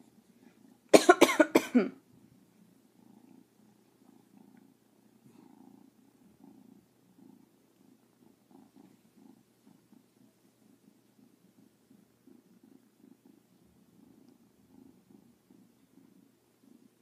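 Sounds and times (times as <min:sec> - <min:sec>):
cat purring faintly: 0:00.0 - 0:01.0, 0:01.9 - 0:17.0.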